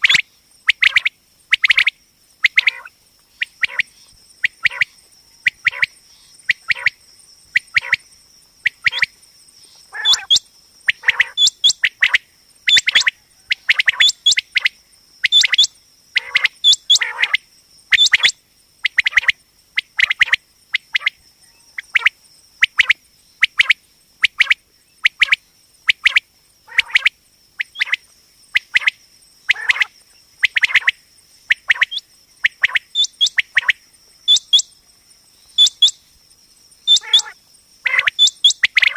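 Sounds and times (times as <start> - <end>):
quail calling: 0.0 - 7.0, 7.6 - 8.0, 8.6 - 9.1, 9.8 - 14.7, 15.3 - 19.3, 21.0 - 28.0, 29.5 - 34.7, 35.6 - 36.0, 36.9 - 38.9.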